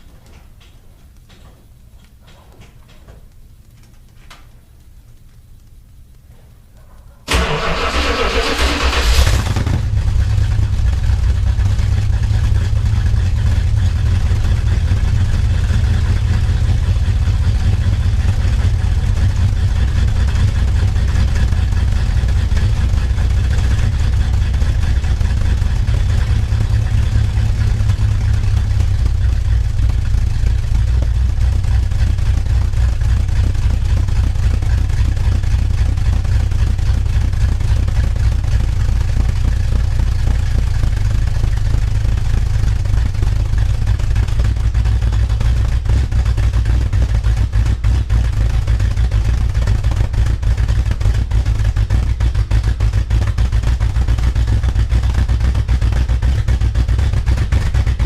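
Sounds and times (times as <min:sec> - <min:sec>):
car engine starting: 0:06.9 - 0:55.0
car engine idling loudly: 0:07.3 - 0:58.0.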